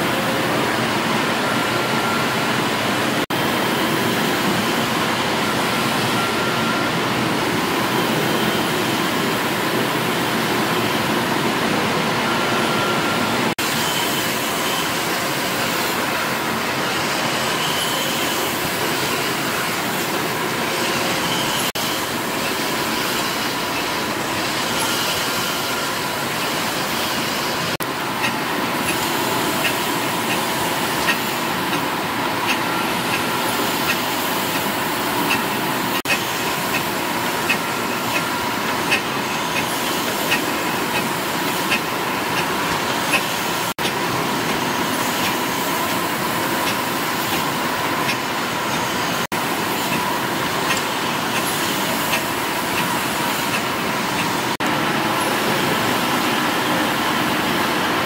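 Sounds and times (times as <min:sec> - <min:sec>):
steam engines running: 0:00.0 - 0:58.0.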